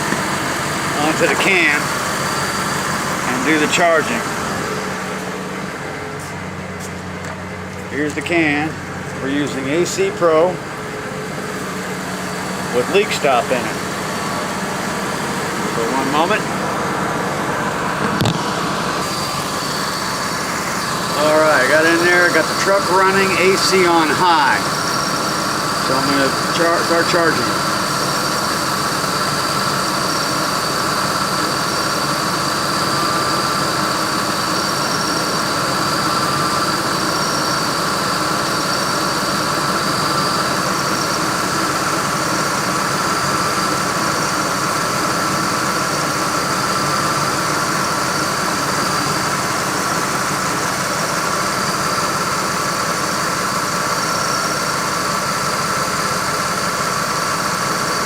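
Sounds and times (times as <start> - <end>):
car engine idling: 0.0 - 58.0
high whine of compressor: 0.0 - 58.0.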